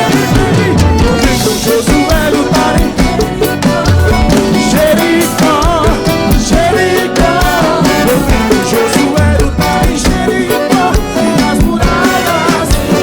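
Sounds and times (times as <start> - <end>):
band playing gospel song: 0.0 - 13.0
drum kit beat: 0.0 - 13.0.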